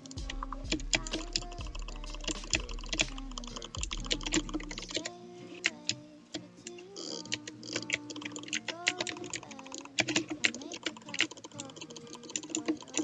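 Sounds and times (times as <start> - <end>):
keyboard typing clicks: 0.0 - 6.0, 6.6 - 13.0
music: 0.0 - 13.0.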